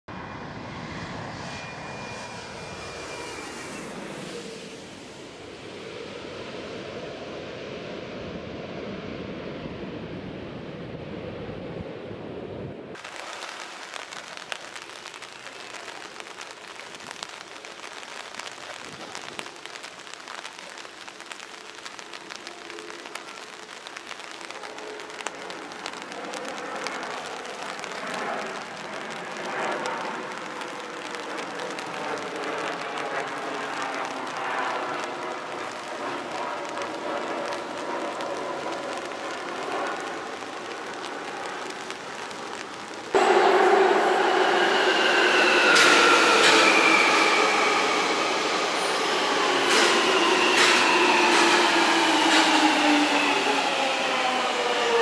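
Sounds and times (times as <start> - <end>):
traffic hiss: 1.4 - 8.0, 13.0 - 55.0.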